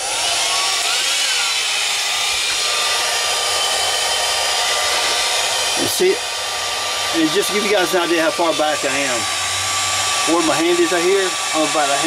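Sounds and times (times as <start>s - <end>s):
heat gun blowing hiss: 0.0s - 12.0s.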